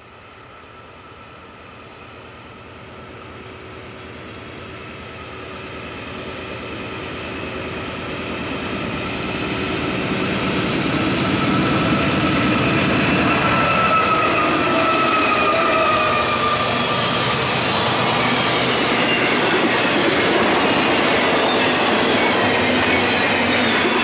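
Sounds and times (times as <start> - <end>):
freight locomotives passing: 0.0 - 24.0.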